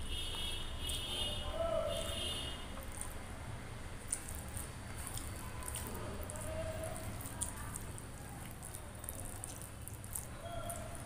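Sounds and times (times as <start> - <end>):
wet squishing of rice: 0.8 - 11.0.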